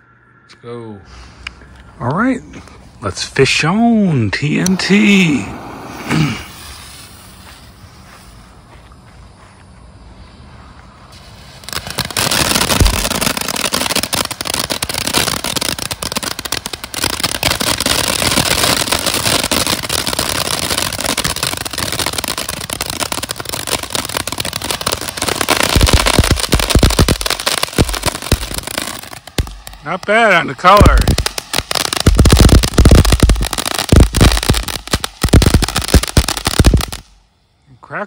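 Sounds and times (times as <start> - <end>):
firework fountain hissing: 2.3 - 37.6
firework crackling and pops: 2.5 - 37.4.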